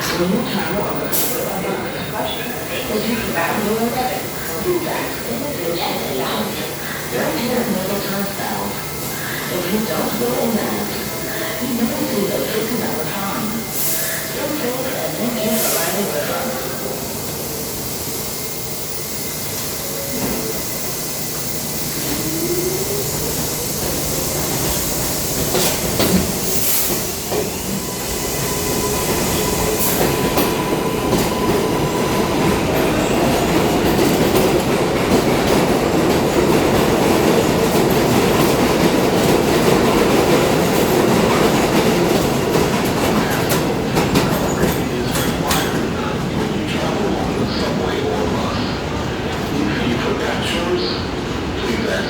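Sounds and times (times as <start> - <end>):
subway train running: 0.0 - 52.0.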